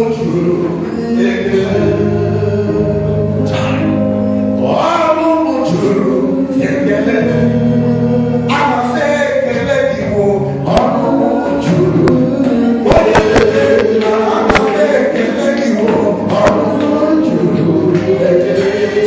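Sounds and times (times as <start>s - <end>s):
gospel choir singing: 0.0s - 19.0s
low instrumental accompaniment: 0.0s - 19.0s.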